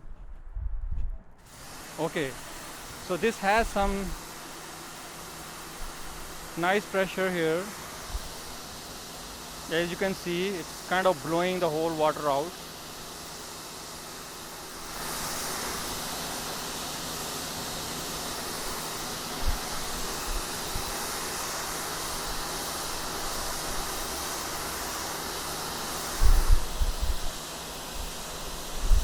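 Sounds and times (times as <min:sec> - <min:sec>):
pressure washer water jet hissing: 0:01.4 - 0:29.0.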